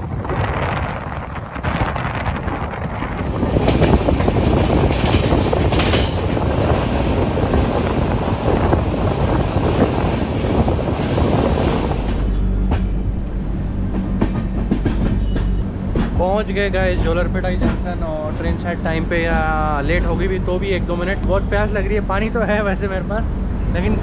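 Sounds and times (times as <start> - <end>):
low train hum: 0.0 - 24.0
train rumbling at speed: 0.0 - 24.0
wind buffeting the microphone: 0.0 - 24.0
train clicks: 1.7 - 22.3.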